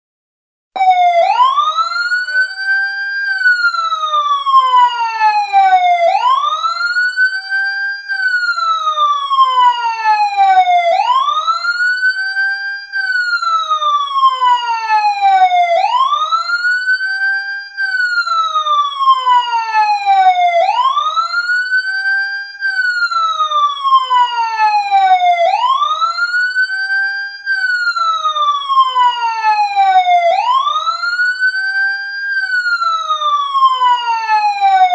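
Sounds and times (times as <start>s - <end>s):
emergency siren slow wail: 0.8s - 34.9s.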